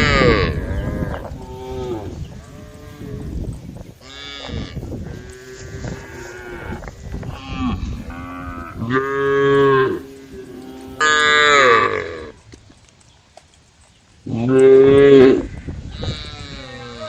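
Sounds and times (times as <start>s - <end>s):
cows mooing: 0.0s - 12.4s, 14.3s - 17.0s.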